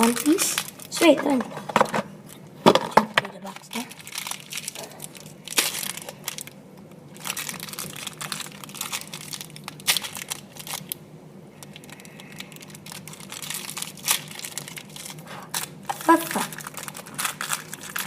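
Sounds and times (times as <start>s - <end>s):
plastic wrapper crinkling: 0.0s - 11.0s, 11.6s - 18.0s.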